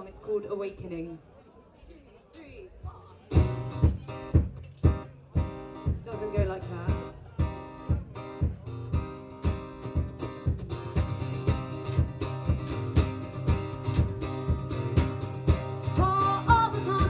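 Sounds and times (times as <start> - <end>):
acoustic guitars strumming: 3.3 - 17.0.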